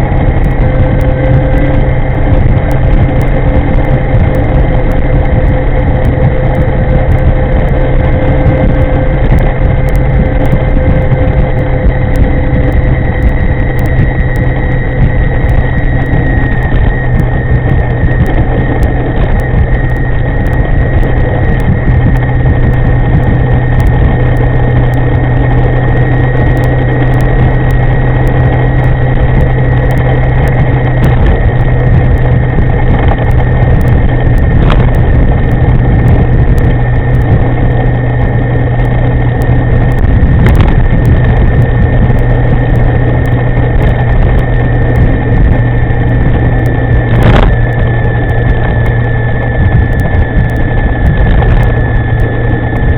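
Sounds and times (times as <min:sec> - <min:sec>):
electric motor whine: 0:00.0 - 0:52.9
wind rush and road noise: 0:00.0 - 0:52.9.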